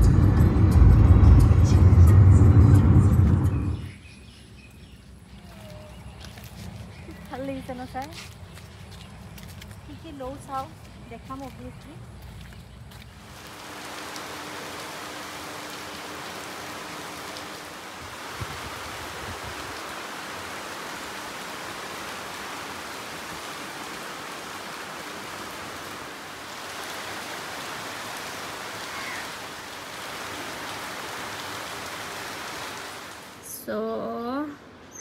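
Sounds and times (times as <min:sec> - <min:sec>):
rain falling on plants: 0:05.3 - 0:33.6.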